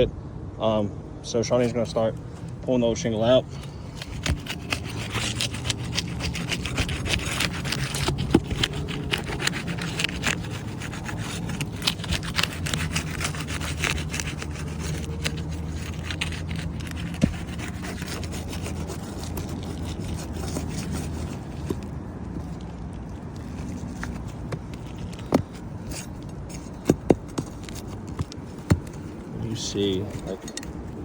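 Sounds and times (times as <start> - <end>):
shingle scraping and snapping: 1.6 - 31.0.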